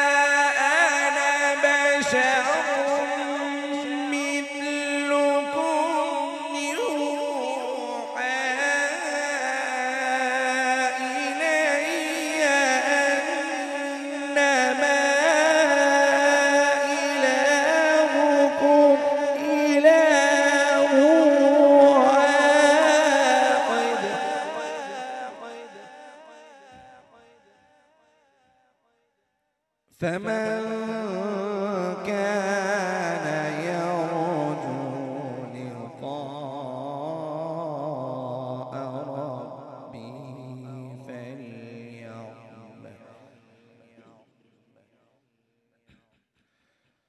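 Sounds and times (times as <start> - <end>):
man chanting over sound system: 0.0 - 27.4, 30.0 - 45.0
man reciting melodically: 0.0 - 27.5, 29.9 - 44.9.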